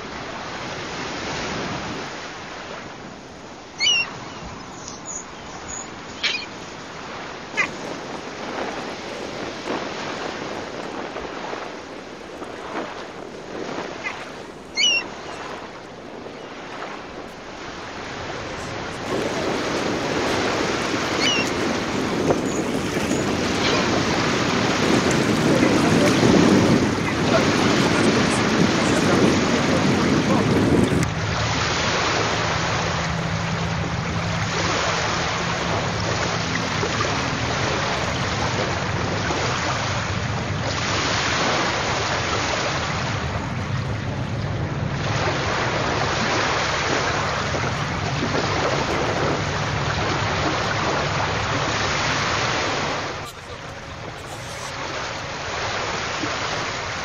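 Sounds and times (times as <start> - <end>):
wind buffeting microphone: 0.0 - 57.0
water lapping against platform: 5.8 - 57.0.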